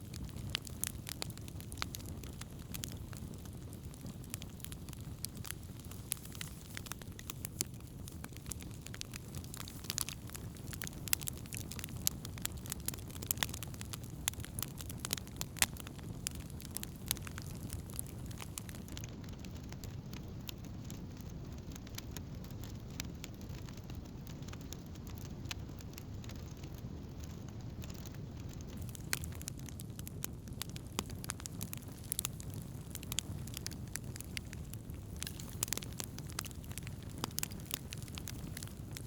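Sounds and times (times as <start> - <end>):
campfire crackling and popping: 0.0 - 39.0
fire flames rumbling: 0.0 - 39.0.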